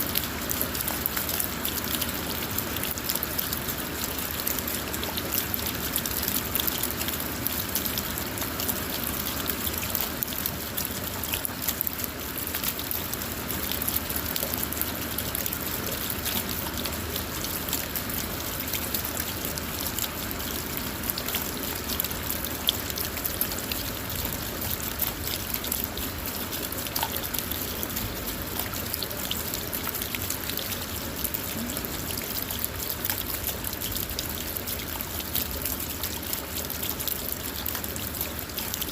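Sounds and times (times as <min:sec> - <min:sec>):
rain falling on a car: 0:00.0 - 0:38.9.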